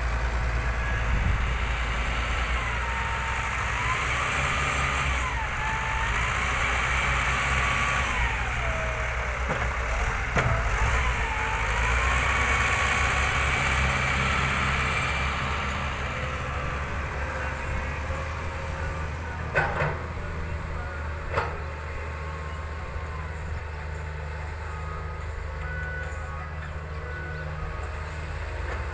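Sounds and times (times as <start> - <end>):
wheel loader diesel engine: 0.0 - 28.9.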